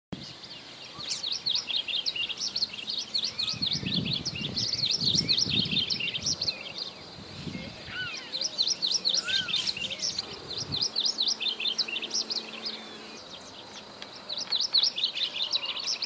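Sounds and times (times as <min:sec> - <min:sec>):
songbirds chirping: 0:00.2 - 0:16.0
whistled bird notes: 0:00.2 - 0:16.0.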